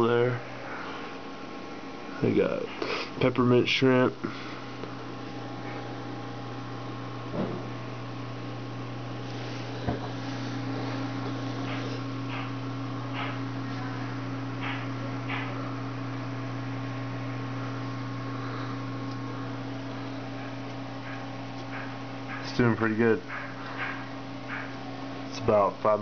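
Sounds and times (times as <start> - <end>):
aquarium pumps humming: 0.0 - 26.0.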